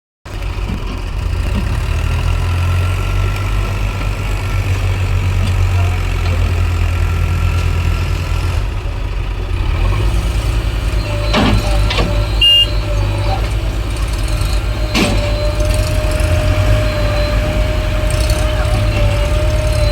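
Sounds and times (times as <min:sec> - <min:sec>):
diesel engine running: 0:00.3 - 0:19.9.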